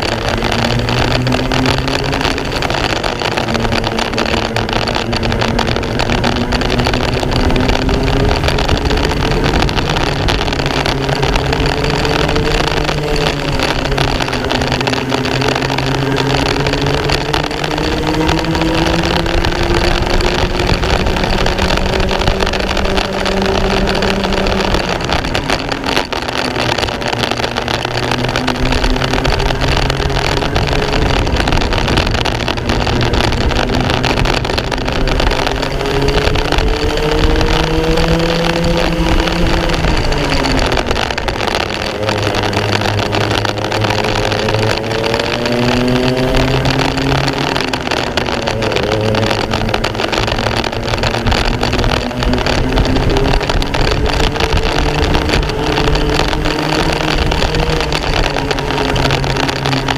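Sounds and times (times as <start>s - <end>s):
racing kart engine accelerating: 0.0s - 59.9s
wind rush and rumble: 0.0s - 59.9s.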